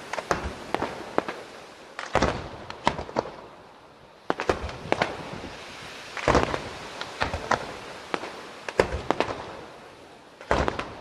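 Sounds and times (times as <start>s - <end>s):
fireworks bangs: 0.0s - 3.5s, 4.3s - 9.7s, 10.4s - 11.0s.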